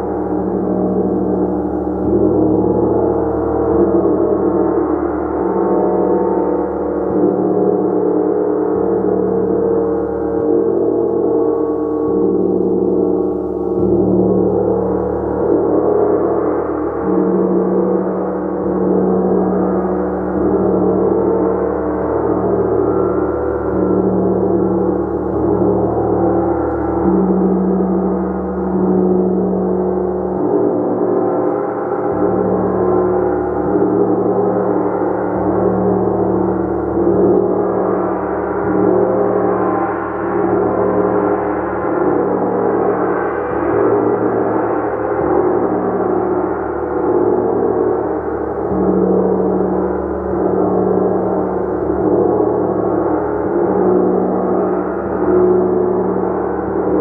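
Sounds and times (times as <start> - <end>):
gong shimmering wash: 0.0 - 57.0.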